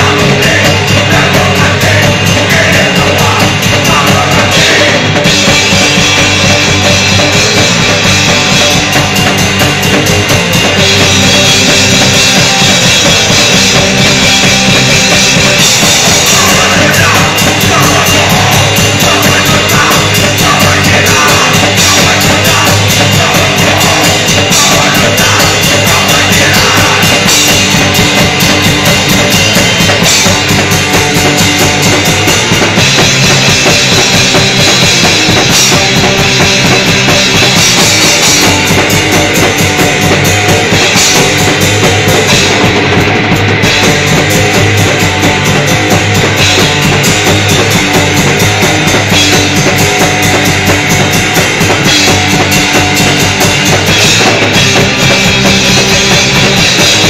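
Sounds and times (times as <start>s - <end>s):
punk rock band playing live: 0.0s - 57.0s.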